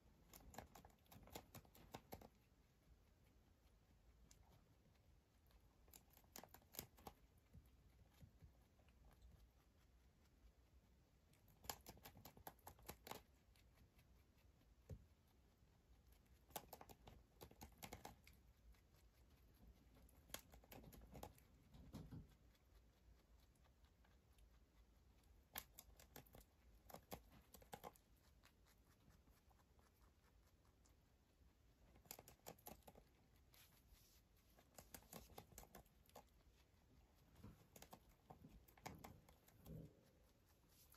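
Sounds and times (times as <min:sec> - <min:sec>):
rabbit chewing: 0:00.0 - 0:40.9.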